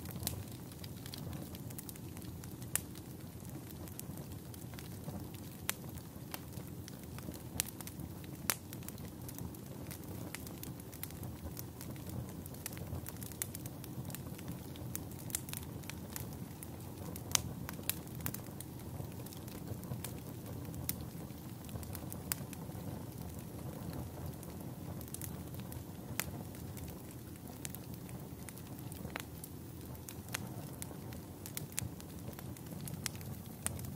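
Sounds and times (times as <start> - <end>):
campfire flame noise: 0.0 - 33.9
wood crackling and popping: 0.0 - 33.9.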